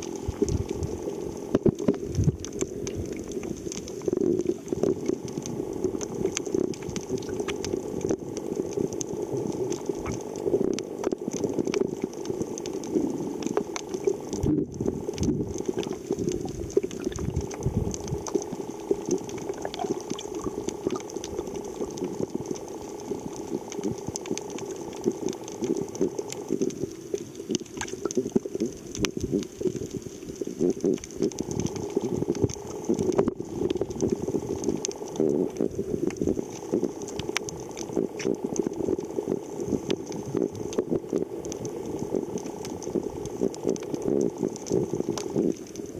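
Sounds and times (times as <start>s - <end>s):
underwater rumbling and bubbles: 0.0s - 45.9s
small clicks: 0.1s - 45.9s.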